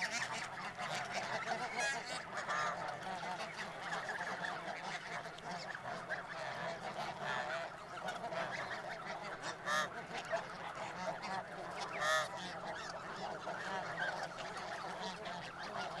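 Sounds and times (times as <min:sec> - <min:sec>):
flock of geese honking: 0:00.0 - 0:16.0
nearby goose honking: 0:00.0 - 0:16.0.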